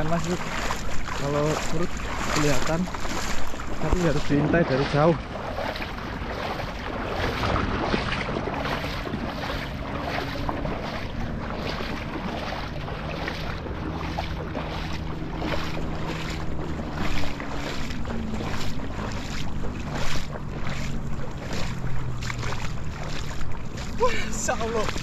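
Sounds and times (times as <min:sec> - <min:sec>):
feet wading through water: 0:00.0 - 0:25.0.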